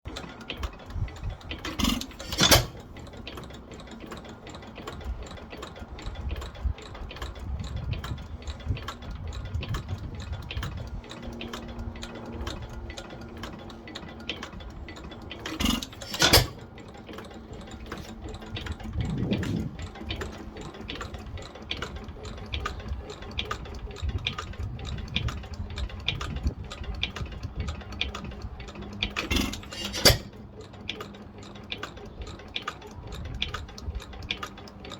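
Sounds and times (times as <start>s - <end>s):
stationary engine clatter: 0.1s - 34.9s.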